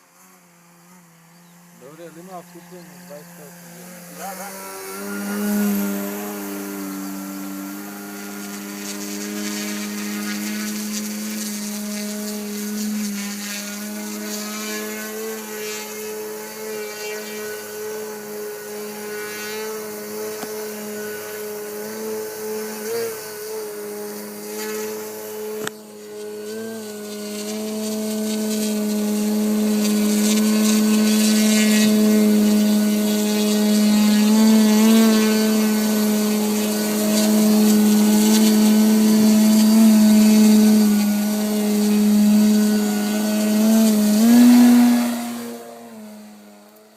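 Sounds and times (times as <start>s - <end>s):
model plane electric motor and propeller: 0.0s - 46.9s.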